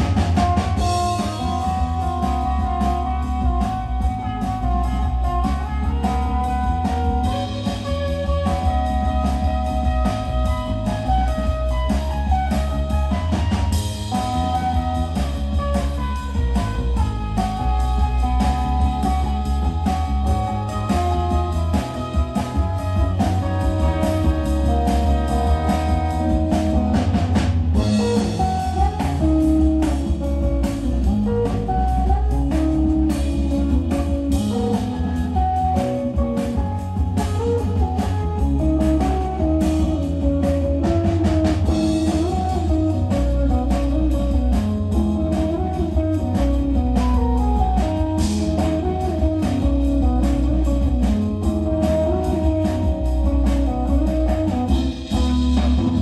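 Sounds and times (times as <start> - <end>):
bass line: 0.0 - 56.0
drum kit beat: 0.0 - 56.0
guitar: 0.0 - 56.0.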